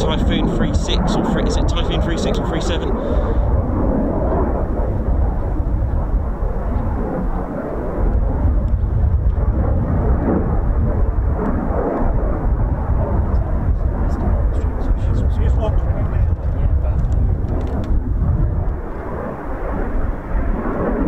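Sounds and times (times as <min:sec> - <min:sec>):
jet engine deep rumble: 0:00.0 - 0:21.0.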